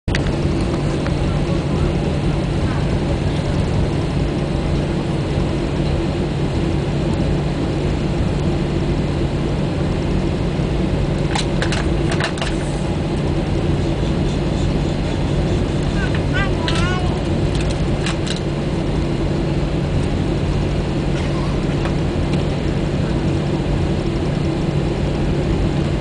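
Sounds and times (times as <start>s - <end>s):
aircraft engines humming: 0.1s - 26.0s.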